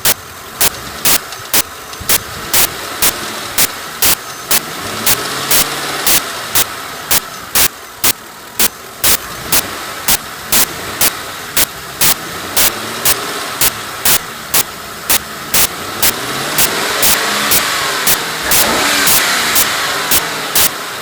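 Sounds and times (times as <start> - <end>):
car engine running: 0.0 - 21.0
sharp engine ticking: 0.0 - 21.0.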